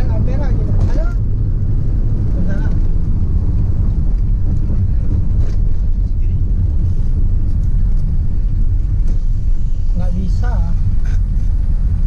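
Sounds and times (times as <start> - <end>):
engine and tyres rumbling in cabin: 0.0 - 12.0.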